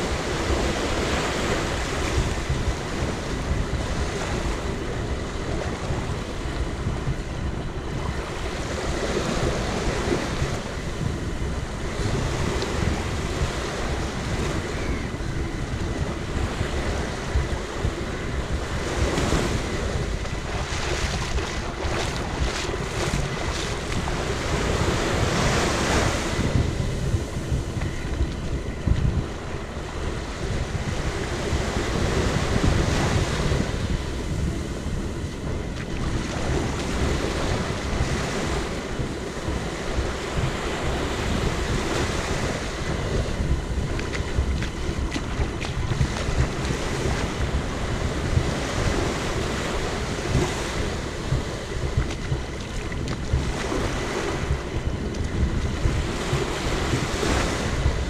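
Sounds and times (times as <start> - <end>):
ocean waves on beach: 0.0 - 58.0
wind on microphone: 0.0 - 58.0.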